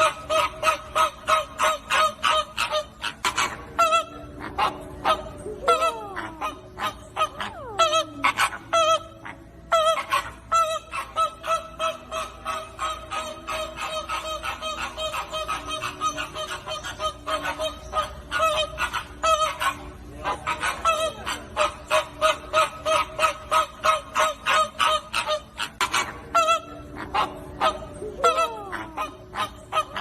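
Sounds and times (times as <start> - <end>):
flamingos honking: 0.0 - 30.0.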